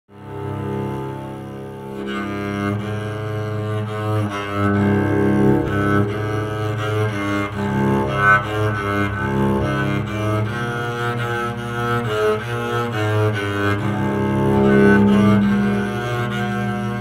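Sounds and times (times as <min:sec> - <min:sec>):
low held note: 0:00.1 - 0:12.1, 0:13.3 - 0:17.0
electric cello melody: 0:00.1 - 0:17.0.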